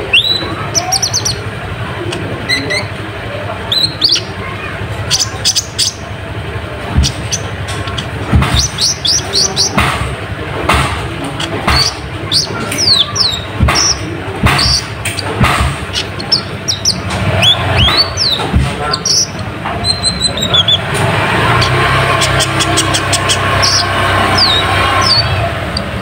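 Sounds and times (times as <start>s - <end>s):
sunbird calling: 0.0s - 9.8s, 11.3s - 25.5s.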